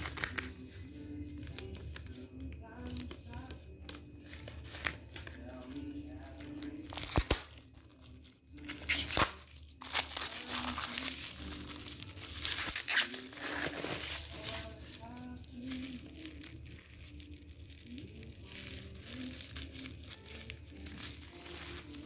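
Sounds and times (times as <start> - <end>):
plastic packaging crinkling and tearing: 0.0 - 22.0.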